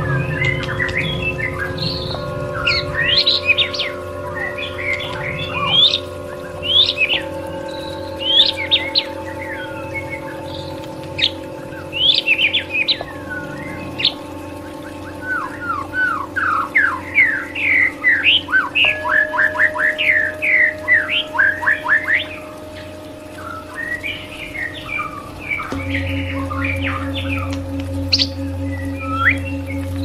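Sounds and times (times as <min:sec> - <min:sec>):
drone of held tones: 0:00.0 - 0:30.0.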